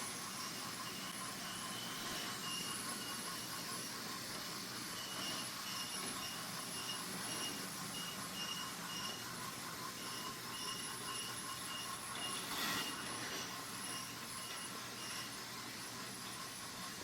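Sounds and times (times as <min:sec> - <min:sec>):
toy train motors whirring: 0:00.0 - 0:17.0.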